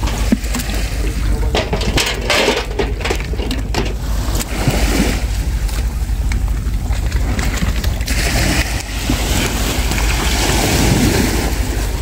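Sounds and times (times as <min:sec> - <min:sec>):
water sloshing: 0:00.0 - 0:12.0
wind rumble on microphone: 0:00.0 - 0:12.0.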